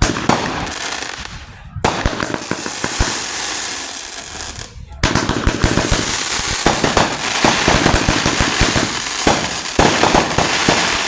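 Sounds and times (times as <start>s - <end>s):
firecrackers popping: 0.0s - 11.0s.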